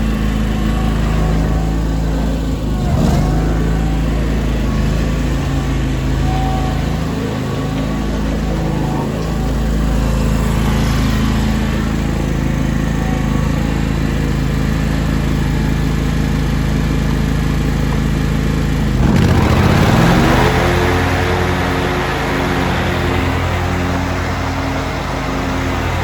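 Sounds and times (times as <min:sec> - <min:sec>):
garden tractor engine running: 0:00.0 - 0:26.0.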